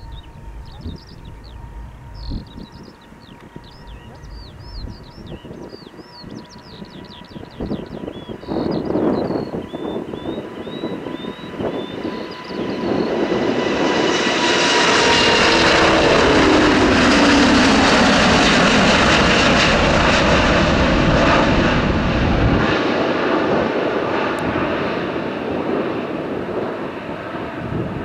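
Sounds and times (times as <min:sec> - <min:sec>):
jet airliner taking off: 0:00.0 - 0:28.0.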